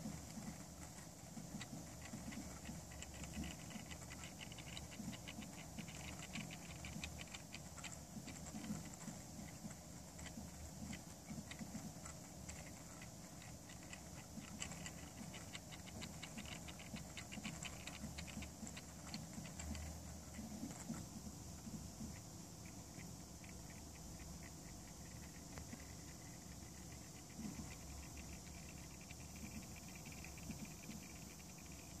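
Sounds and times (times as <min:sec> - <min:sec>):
gears ticking: 0:00.0 - 0:21.0, 0:21.6 - 0:32.0.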